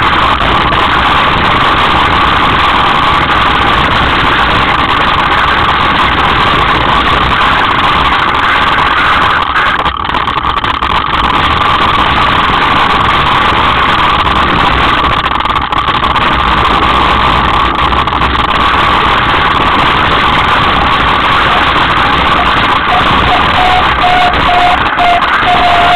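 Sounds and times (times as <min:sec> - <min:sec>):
bike tyres rolling over stones: 0:00.0 - 0:25.9
wind on microphone: 0:00.0 - 0:25.9.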